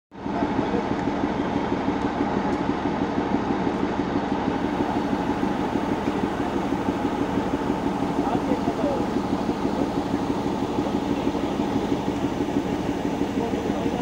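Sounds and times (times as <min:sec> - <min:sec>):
diesel locomotive engine droning: 0:00.1 - 0:14.0.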